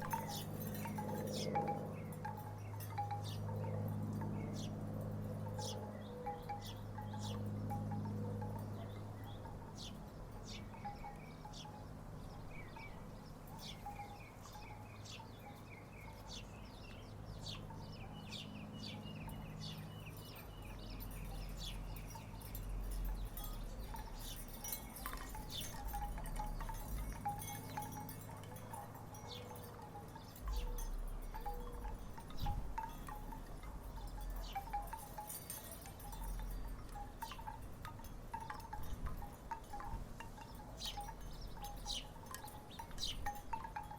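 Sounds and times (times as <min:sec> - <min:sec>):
wooden wind chimes clacking: 0:00.0 - 0:43.9.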